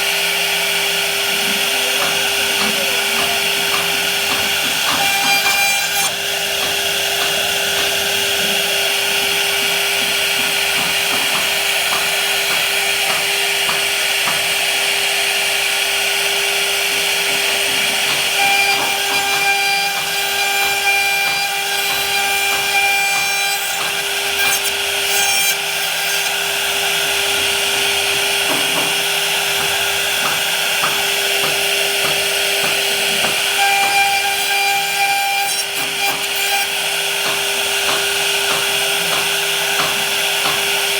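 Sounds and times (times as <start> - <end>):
power tool cutting wood: 0.0 - 40.9.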